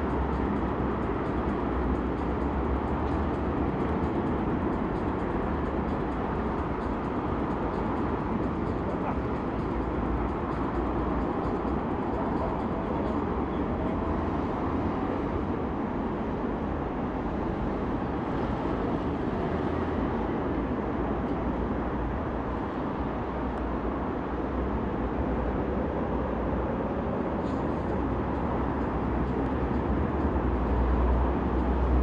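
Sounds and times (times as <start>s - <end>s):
low rumbling outdoor noise: 0.0s - 32.0s.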